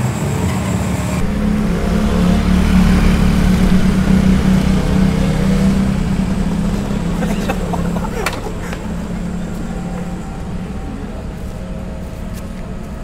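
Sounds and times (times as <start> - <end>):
small motorcycle engine running: 0.8 - 13.0.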